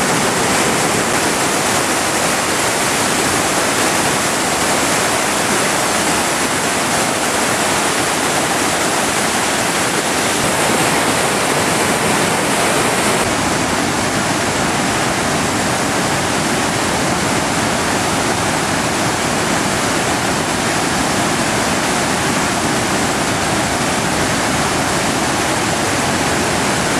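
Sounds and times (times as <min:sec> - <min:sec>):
water rushing over a dam: 0:00.0 - 0:26.9.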